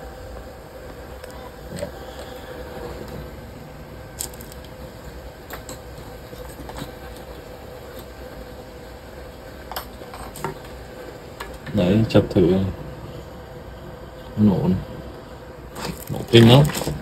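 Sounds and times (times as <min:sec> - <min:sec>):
faint steady tones: 0:00.0 - 0:17.0
steady hum: 0:00.0 - 0:17.0.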